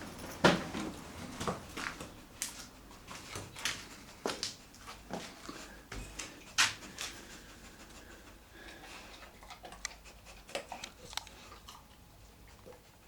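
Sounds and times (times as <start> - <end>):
dog panting: 2.1 - 13.0.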